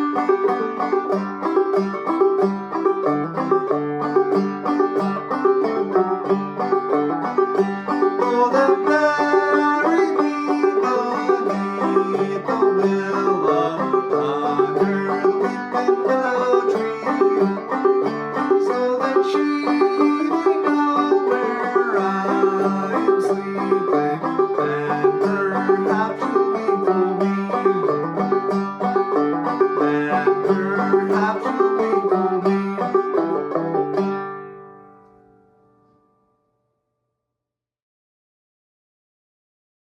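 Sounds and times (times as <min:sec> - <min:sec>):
banjo picking and strumming: 0:00.0 - 0:35.7.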